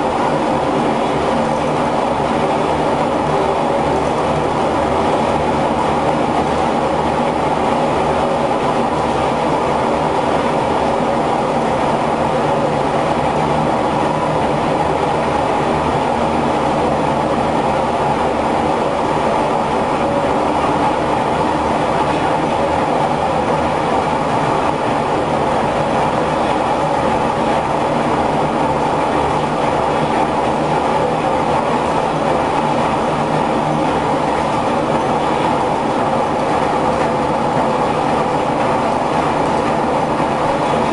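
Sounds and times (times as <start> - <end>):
textile mill machinery running: 0.0 - 40.9.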